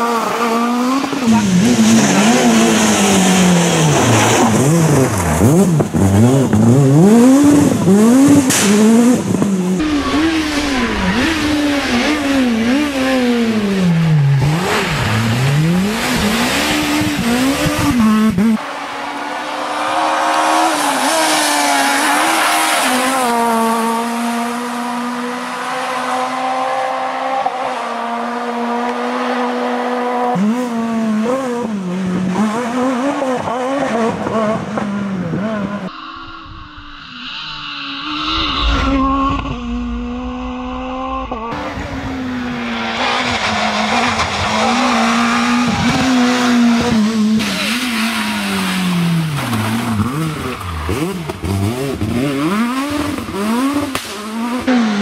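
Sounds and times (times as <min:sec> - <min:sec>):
rally car engine revving: 0:00.0 - 0:36.2, 0:37.0 - 0:55.0.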